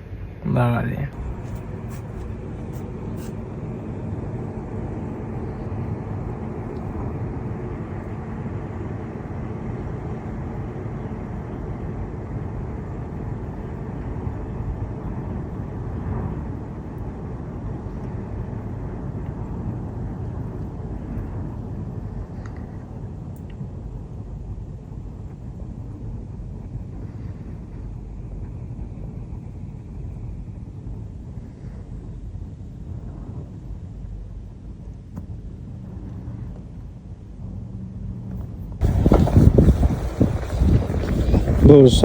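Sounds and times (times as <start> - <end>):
steady low rumbling: 0.0 - 42.0.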